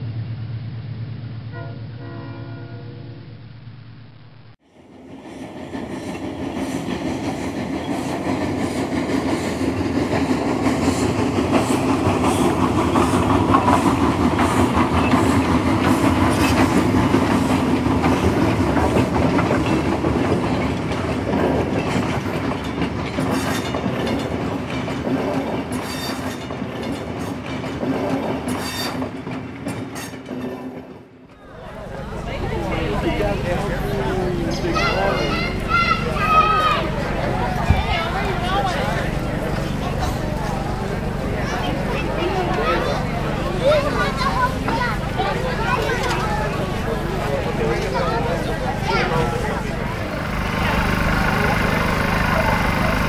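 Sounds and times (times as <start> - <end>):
train rumbling by: 0.0 - 4.0, 4.6 - 53.0
wheels clicking over rail joints: 5.3 - 53.0.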